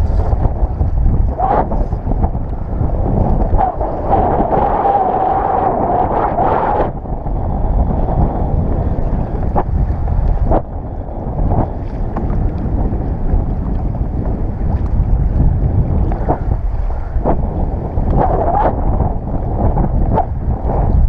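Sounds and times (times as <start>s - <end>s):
choppy sea water: 0.0s - 21.0s
wind noise on microphone: 0.0s - 21.0s.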